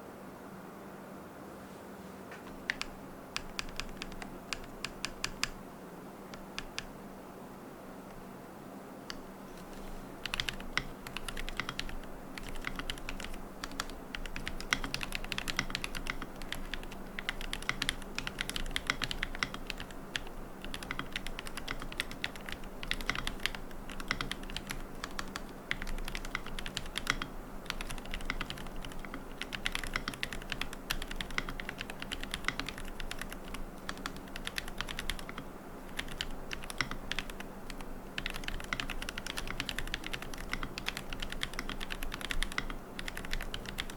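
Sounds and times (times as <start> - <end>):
mechanical keyboard typing: 2.5 - 5.6, 6.3 - 6.9, 10.2 - 43.9.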